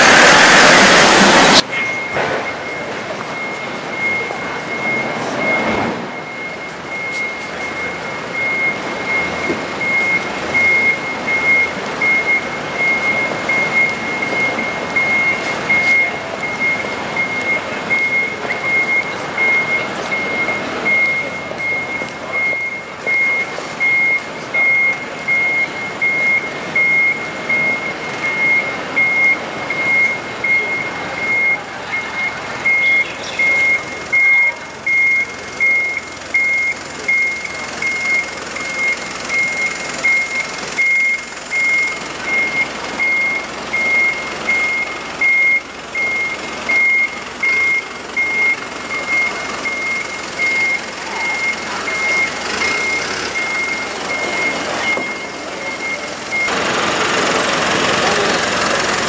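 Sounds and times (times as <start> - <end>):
reversing alarm beeping: 0.0 - 58.8
truck engine running: 0.0 - 59.0.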